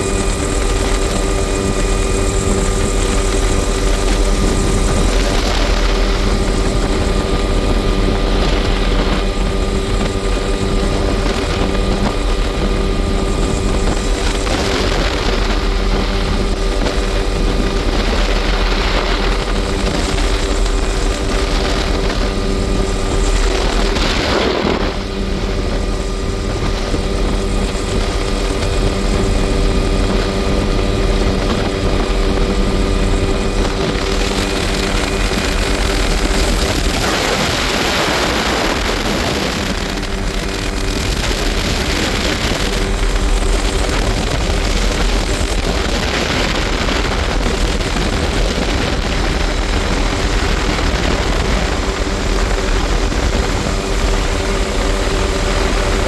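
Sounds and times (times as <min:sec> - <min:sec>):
helicopter engine and rotor whine: 0:00.0 - 0:56.0
rushing wind: 0:00.0 - 0:56.0.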